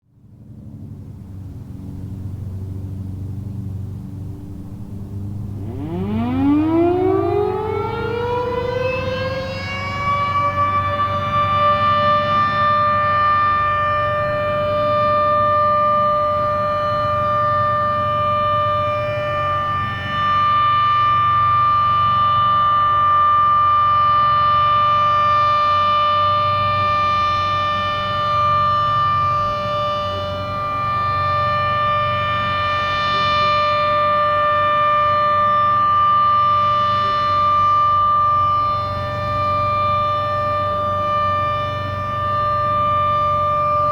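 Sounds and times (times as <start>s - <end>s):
warning siren winding up: 5.5s - 43.9s.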